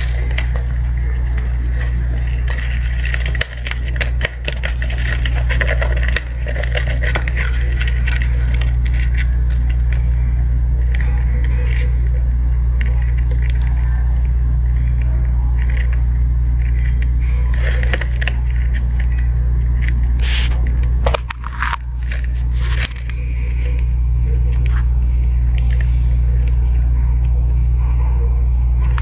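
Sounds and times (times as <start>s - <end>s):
loud low hum: 0.0s - 29.0s.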